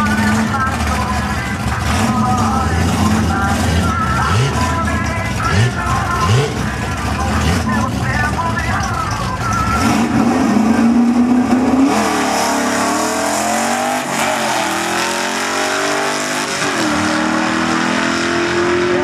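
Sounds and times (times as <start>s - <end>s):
drag car engine accelerating: 0.0s - 19.0s.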